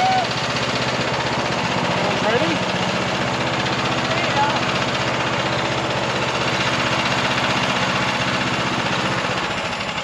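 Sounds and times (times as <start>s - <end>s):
small gas engine running: 0.0s - 10.0s.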